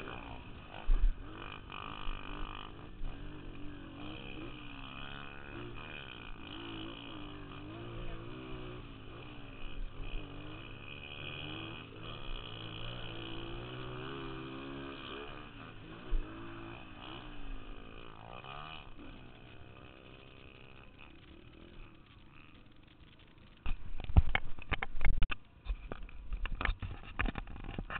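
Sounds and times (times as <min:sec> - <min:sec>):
dirt bike engine revving: 0:00.0 - 0:25.3.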